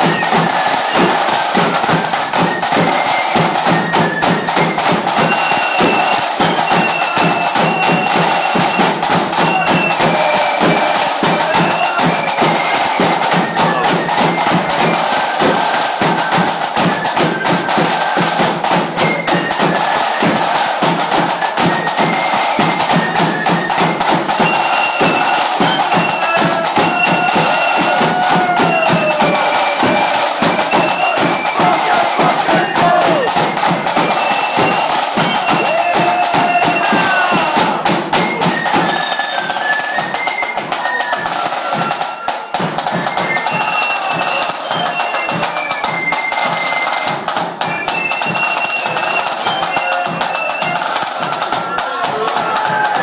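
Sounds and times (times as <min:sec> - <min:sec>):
flutes playing a melody: 0:00.0 - 0:53.0
side drumming: 0:00.0 - 0:53.0.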